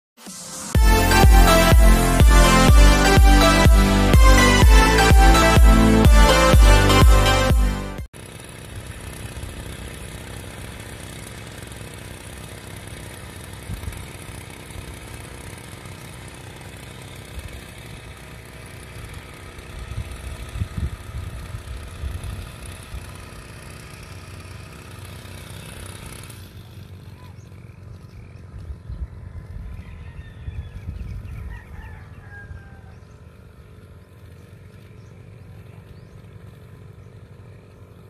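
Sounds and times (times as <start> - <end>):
power sprayer engine running: 0.2 - 29.9, 32.5 - 38.0.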